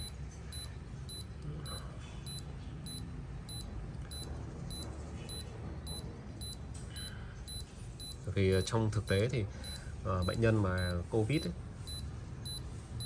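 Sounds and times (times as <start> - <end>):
pulse oximeter beeps: 0.0 - 12.7.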